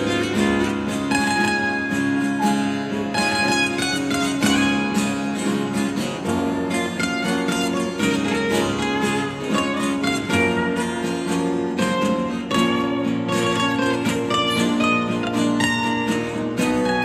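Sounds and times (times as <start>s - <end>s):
plucked lead guitar: 0.0s - 17.0s.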